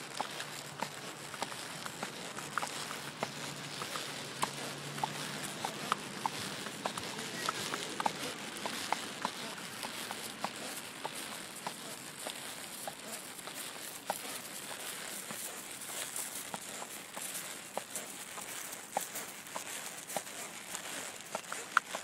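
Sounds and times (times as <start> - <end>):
horse hooves walking: 0.0 - 22.0.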